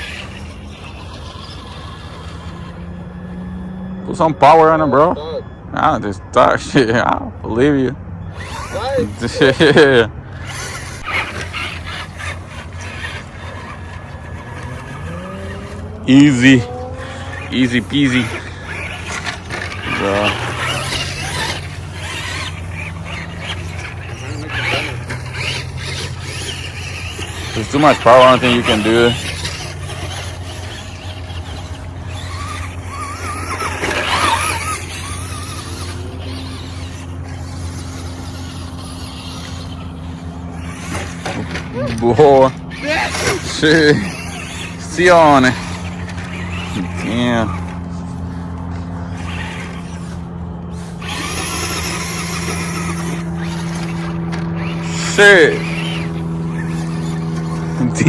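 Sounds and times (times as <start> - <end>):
steady low hum: 0.0 - 4.0, 8.0 - 58.0
toy truck motor grinding: 0.0 - 5.2, 8.3 - 58.0.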